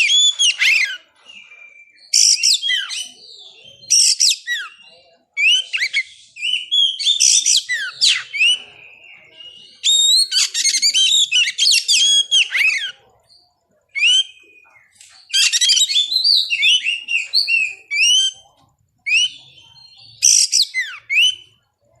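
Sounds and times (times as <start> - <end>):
songbird singing varied whistles: 0.0 - 13.3, 13.9 - 21.6.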